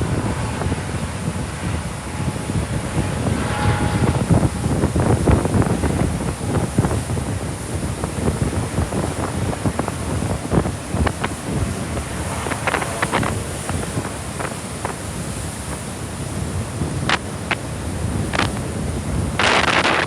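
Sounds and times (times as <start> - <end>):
ocean surf rushing: 0.0 - 20.0
wind buffeting microphone: 0.0 - 20.0.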